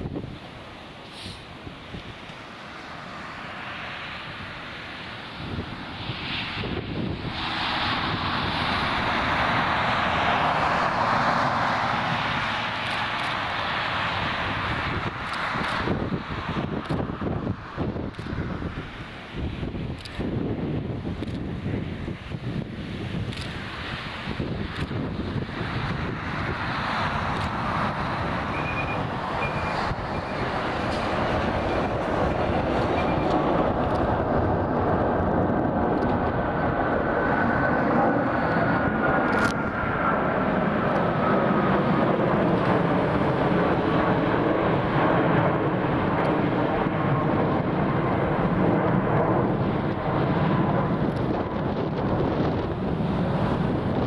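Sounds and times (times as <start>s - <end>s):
jet airliner taking off: 0.0s - 54.0s.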